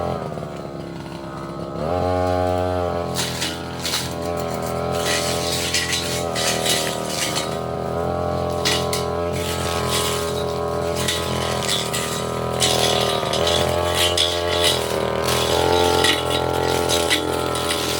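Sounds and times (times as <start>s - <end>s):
brush cutter engine running: 0.0s - 17.9s
metal blade clinking on brush: 3.1s - 17.9s.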